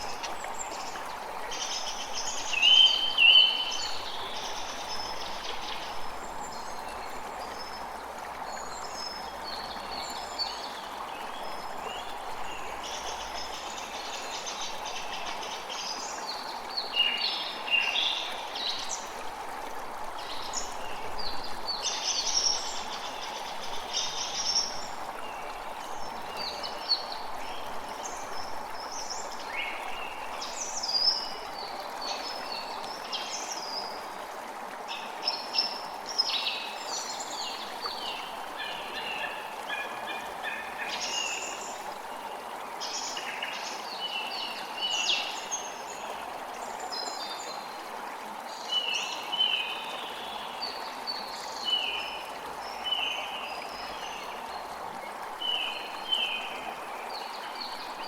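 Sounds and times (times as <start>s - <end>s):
creek water running: 0.0s - 58.0s.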